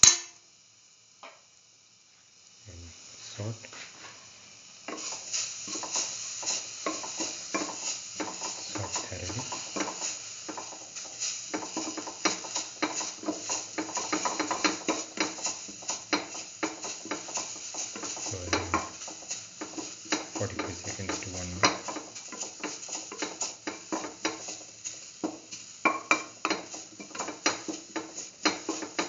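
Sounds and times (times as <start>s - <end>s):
light sizzle: 0.0s - 29.0s.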